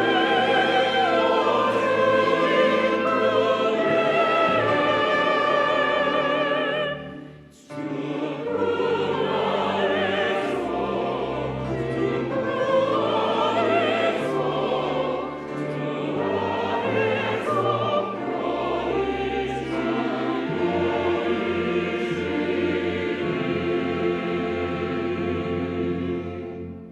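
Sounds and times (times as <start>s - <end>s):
church choir singing: 0.0s - 26.9s
piano: 0.0s - 26.9s.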